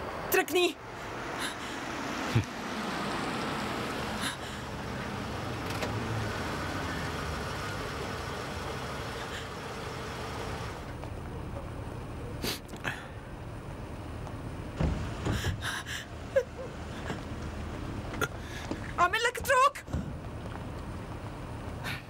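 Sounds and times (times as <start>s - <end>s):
car engine rumble: 0.0s - 22.0s.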